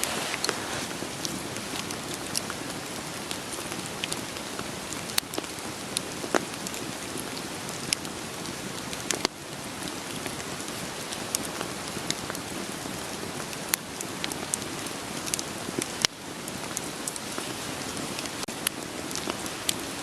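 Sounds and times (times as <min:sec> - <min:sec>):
crackling wood fire: 0:00.0 - 0:20.0
steady rain: 0:00.0 - 0:20.0.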